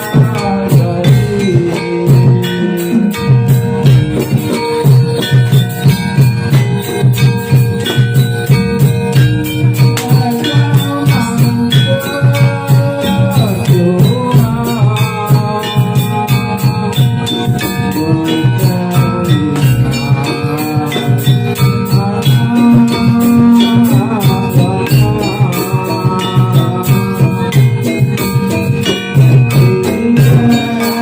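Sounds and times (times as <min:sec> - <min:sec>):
gamelan percussion and drums: 0:00.0 - 0:31.0
jingling bells: 0:00.0 - 0:31.0
sliding melody line: 0:00.0 - 0:31.0.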